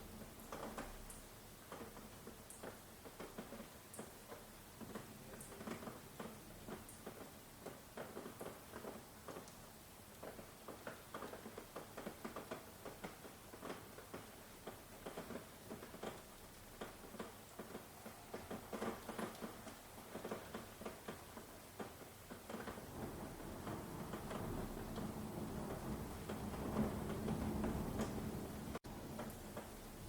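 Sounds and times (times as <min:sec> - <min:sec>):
rain hiss: 0:00.0 - 0:30.0
raindrops tapping: 0:00.1 - 0:30.0.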